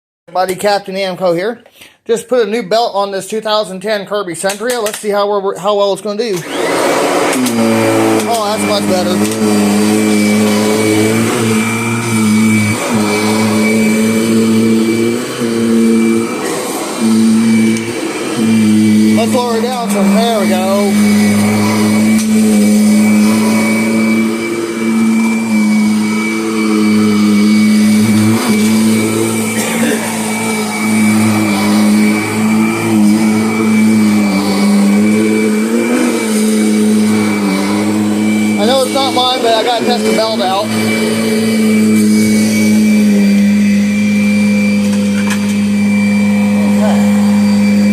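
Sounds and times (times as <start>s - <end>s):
upright vacuum cleaner motor hum: 6.3s - 47.9s.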